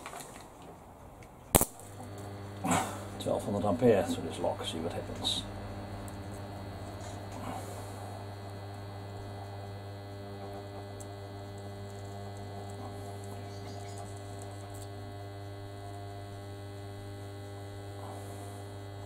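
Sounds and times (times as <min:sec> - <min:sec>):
transformer electrical hum: 0:01.5 - 0:19.0.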